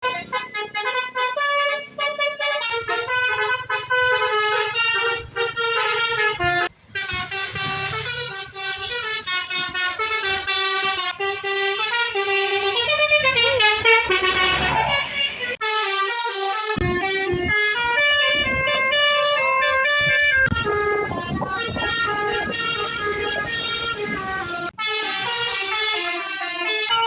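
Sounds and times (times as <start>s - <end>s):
bus horn playing rapid tune: 0.0s - 27.0s.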